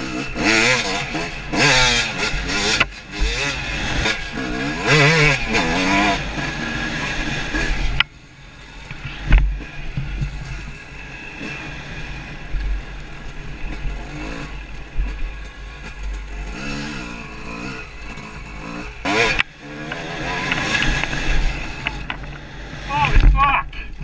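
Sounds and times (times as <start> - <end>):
dirt bike engine revving: 0.0 - 23.8.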